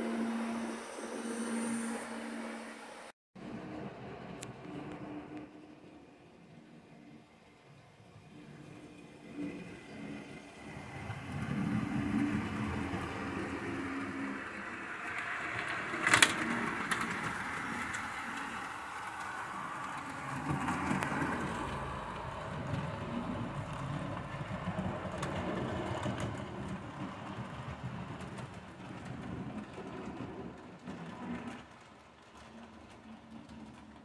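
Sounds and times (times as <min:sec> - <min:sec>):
model train wheels rumbling: 0:03.4 - 0:34.0.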